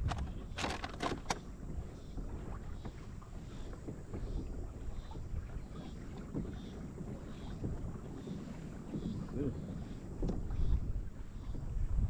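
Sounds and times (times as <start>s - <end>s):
water lapping against a hull: 0.0s - 12.0s
wind rumbling on microphone: 0.0s - 12.0s.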